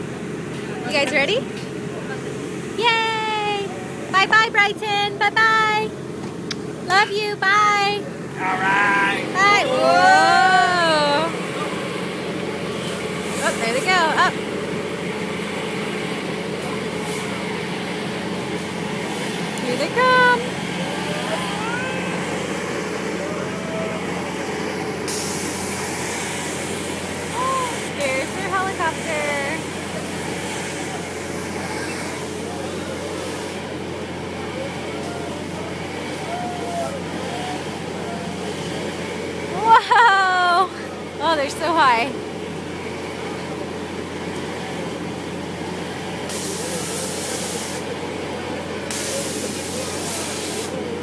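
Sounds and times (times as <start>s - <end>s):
ride machinery hum and hiss: 0.0s - 51.0s.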